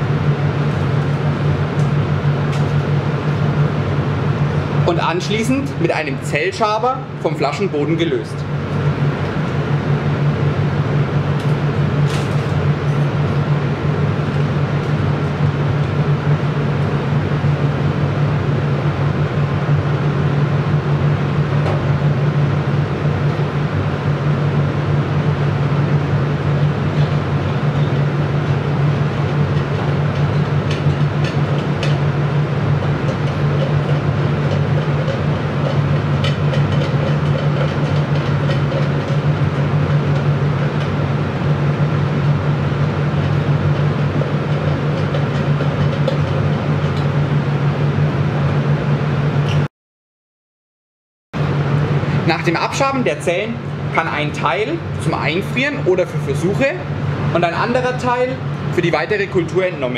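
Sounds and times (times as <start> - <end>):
blower fan humming: 0.0 - 49.7, 51.4 - 59.9.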